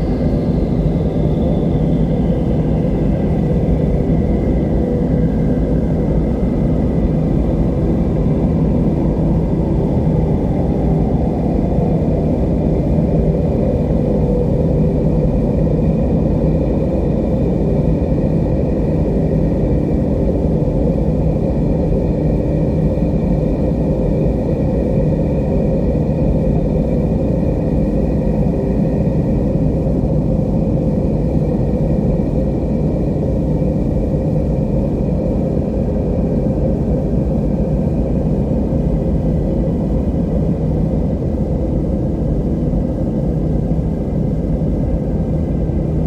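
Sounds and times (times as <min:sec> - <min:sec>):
deep steady wind: 0:00.0 - 0:46.0.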